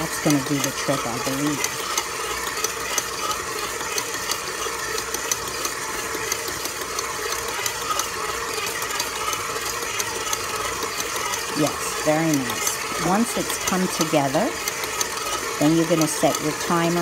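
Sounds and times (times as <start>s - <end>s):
stand mixer motor running: 0.0s - 17.0s.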